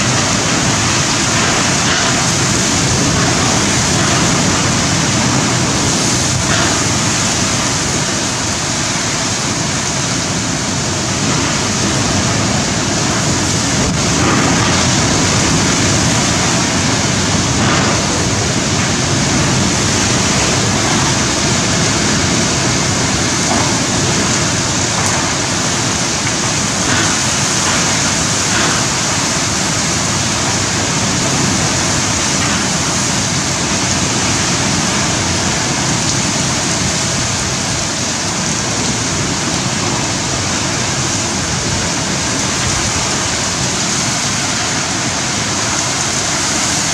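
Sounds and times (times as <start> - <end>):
storm wind: 0.0 - 46.9
very heavy rain: 0.0 - 46.9.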